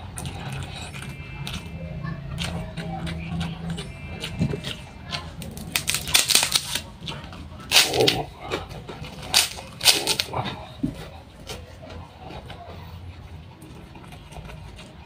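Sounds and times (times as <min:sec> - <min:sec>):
crunching crisp crackers: 0:00.0 - 0:15.0.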